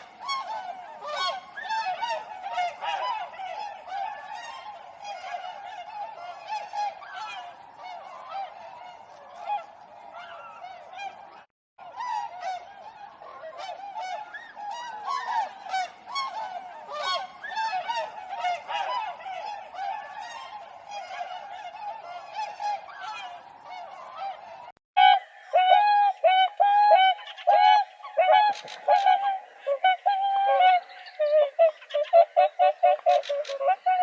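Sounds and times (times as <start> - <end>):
swans honking: 0.0 - 34.0.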